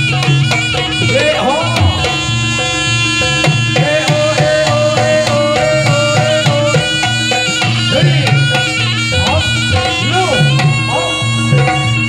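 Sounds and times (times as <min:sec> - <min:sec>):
shrill reed pipe melody: 0:00.0 - 0:12.0.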